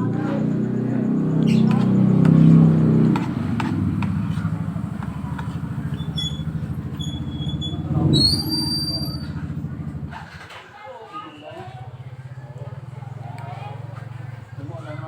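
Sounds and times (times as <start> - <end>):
motorcycle engine running: 0.0 - 10.6, 11.7 - 15.0.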